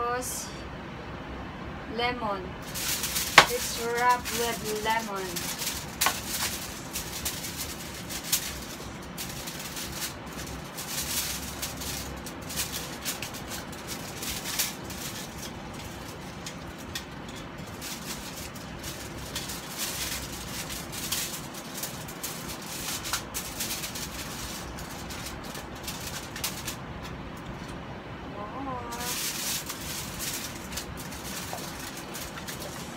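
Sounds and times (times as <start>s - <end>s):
aluminium foil crinkling: 2.6s - 27.8s, 28.8s - 32.9s.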